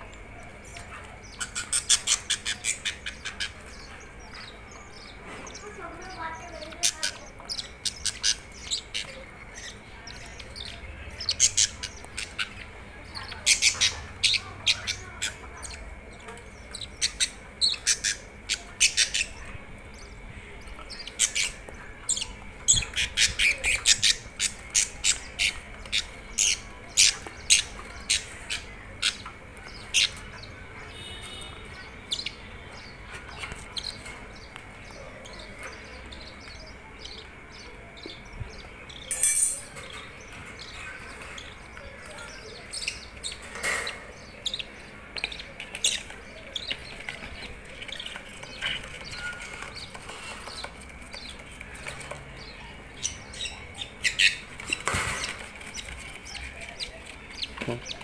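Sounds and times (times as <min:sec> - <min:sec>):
budgies chirping and squawking: 0:00.0 - 0:58.0.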